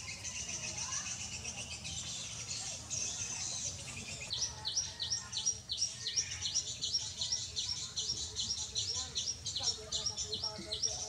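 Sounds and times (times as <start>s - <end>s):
background high chirping: 0.0s - 11.0s.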